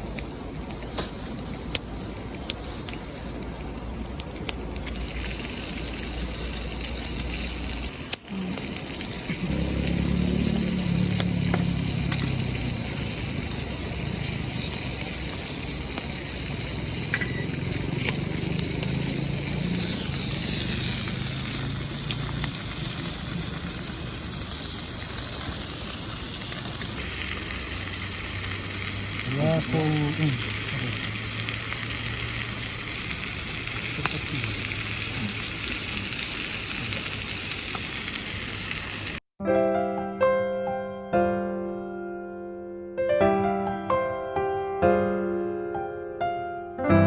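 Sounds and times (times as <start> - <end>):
faint crackles: 0.0 - 39.2
food sizzling in a pan: 0.0 - 39.3.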